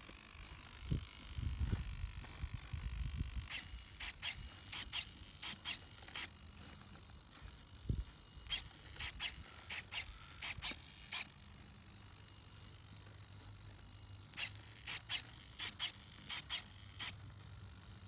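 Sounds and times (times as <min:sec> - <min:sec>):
servo motors whirring: 0:00.0 - 0:18.0.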